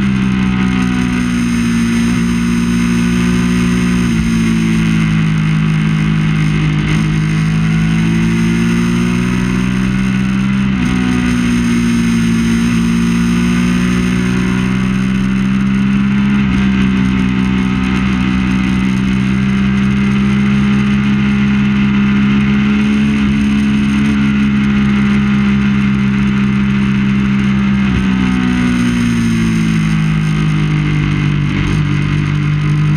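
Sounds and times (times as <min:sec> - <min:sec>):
motorcycle engine at high revs: 0:00.0 - 0:32.9.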